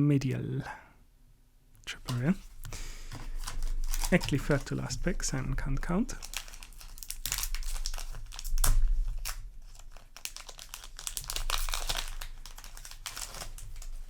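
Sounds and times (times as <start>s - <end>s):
foil wrapper crinkling and tearing: 1.9s - 5.4s, 6.0s - 14.0s.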